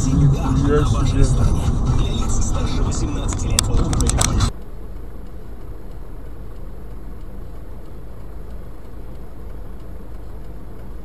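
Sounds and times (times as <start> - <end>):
car idling heard from inside: 0.0 - 11.0.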